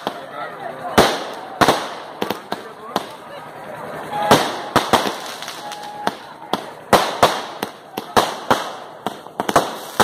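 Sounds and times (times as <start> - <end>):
fireworks bangs: 0.0 - 3.4, 4.0 - 10.0.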